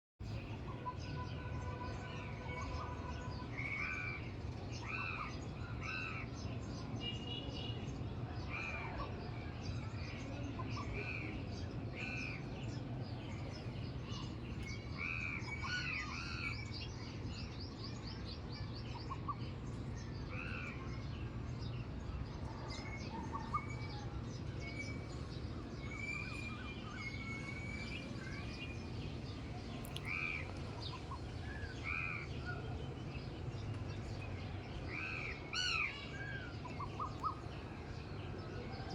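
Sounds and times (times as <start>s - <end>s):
wild birds chirping: 0.3s - 7.8s, 8.4s - 38.9s.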